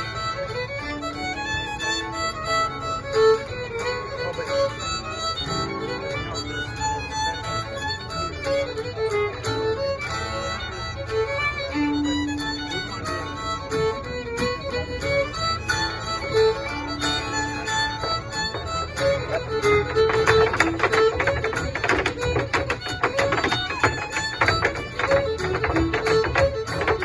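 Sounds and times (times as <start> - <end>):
quick fiddle notes: 0.0 - 27.0.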